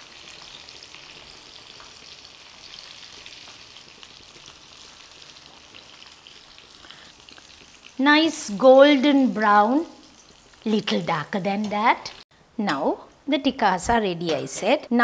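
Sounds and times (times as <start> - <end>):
food sizzling in hot oil: 0.0 - 12.3.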